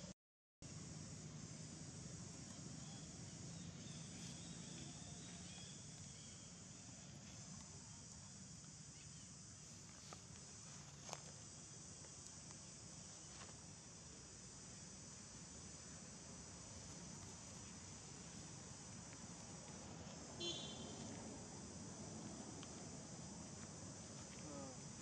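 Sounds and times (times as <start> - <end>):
insect chorus drone: 0.6 - 25.0.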